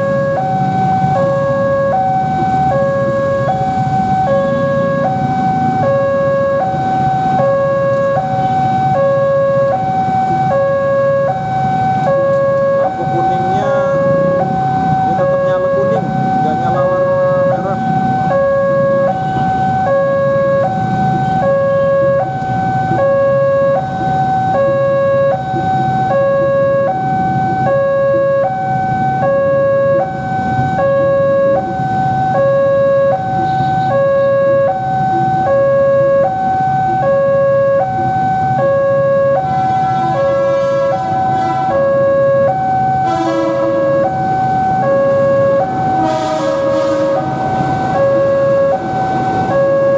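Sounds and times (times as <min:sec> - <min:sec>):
level-crossing alarm tones: 0:00.0 - 0:49.9.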